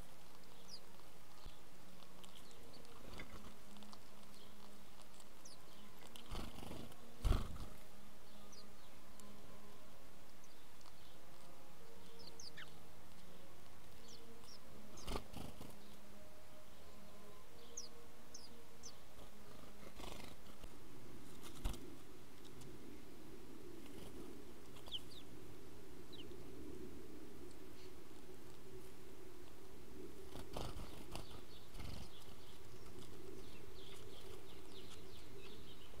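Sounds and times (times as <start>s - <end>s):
low background hum: 0.0s - 36.0s
small birds chirping: 0.0s - 36.0s.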